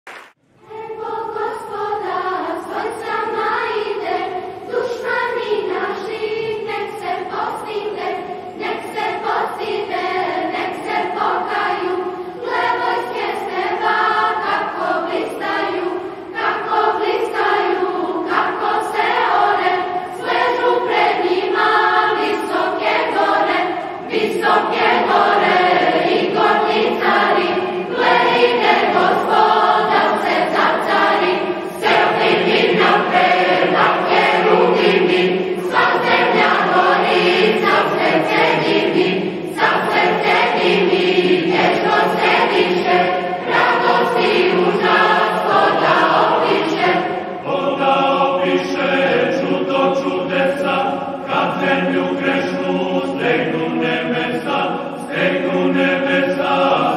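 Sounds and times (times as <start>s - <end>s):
choir singing a hymn: 0.6s - 56.9s.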